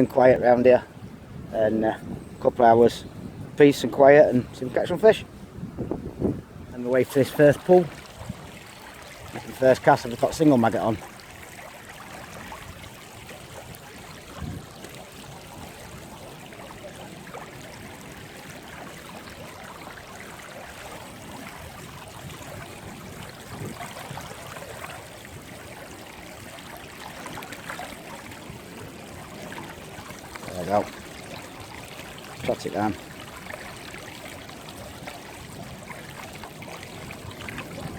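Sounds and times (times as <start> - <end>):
river water running: 0.0 - 37.9.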